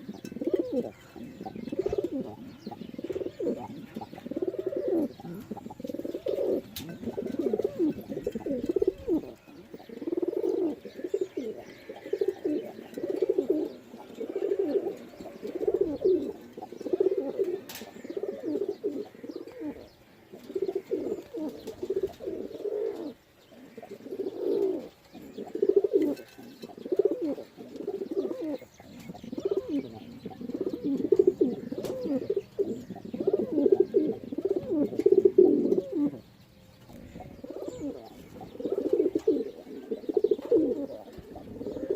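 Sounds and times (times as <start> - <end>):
pigeons cooing: 0.0 - 41.9.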